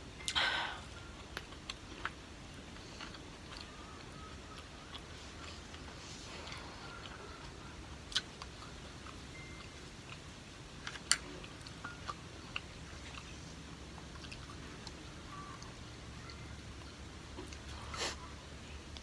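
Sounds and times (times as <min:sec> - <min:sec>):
faint chewing: 0:00.2 - 0:19.0.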